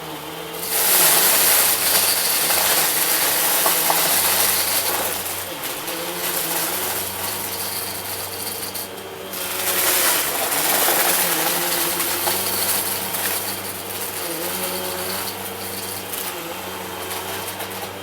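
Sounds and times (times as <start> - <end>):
debris crunching through vacuum: 0.0 - 18.0
vacuum cleaner running: 0.0 - 18.0.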